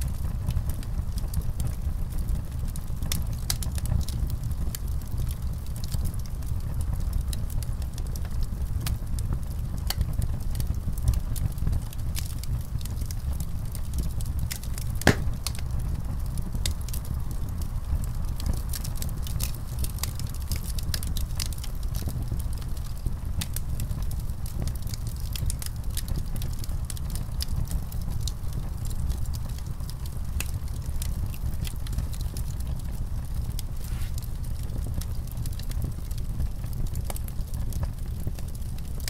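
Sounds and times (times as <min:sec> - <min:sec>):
fire crackling and popping: 0:00.0 - 0:39.0.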